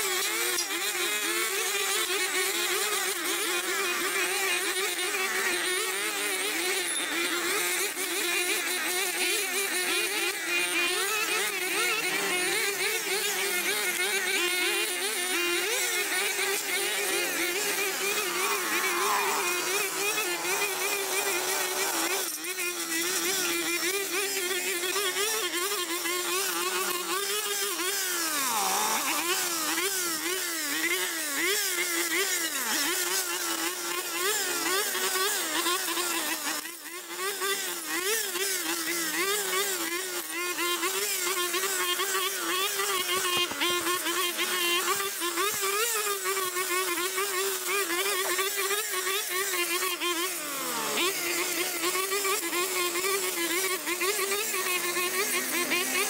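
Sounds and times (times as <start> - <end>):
brush cutter engine cutting grass: 0.0 - 56.0.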